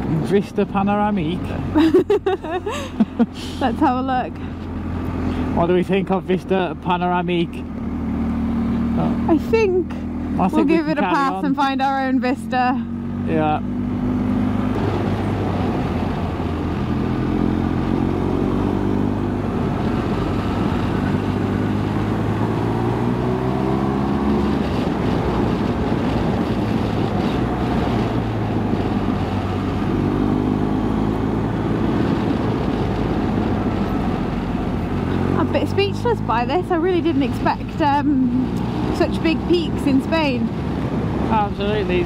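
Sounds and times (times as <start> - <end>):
wind and road noise: 0.0 - 42.0
motorcycle engine running: 3.0 - 42.0.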